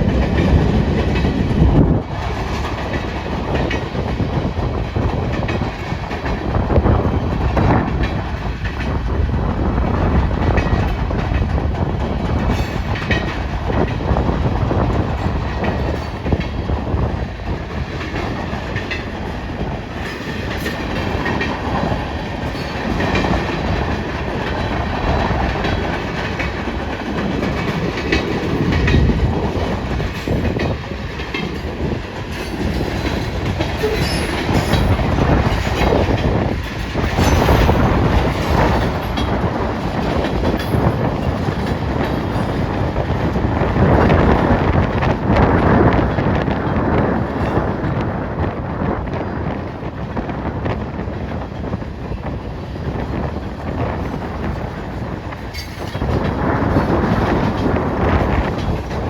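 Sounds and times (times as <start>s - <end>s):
train wheels clicking over rail joints: 0.0s - 59.0s
wind buffeting microphone: 0.0s - 59.0s.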